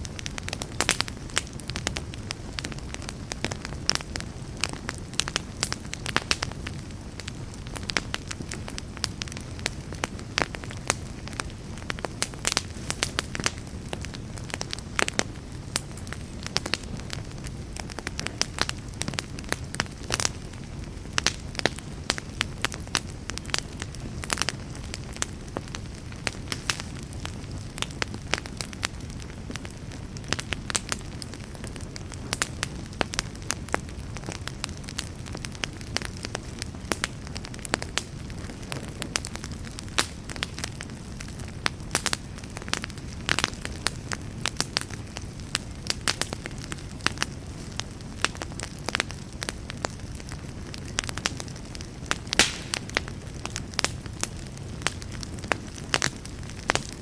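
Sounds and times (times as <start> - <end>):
fire crackles and pops: 0.0 - 57.0
low rumble of flame: 0.0 - 57.0.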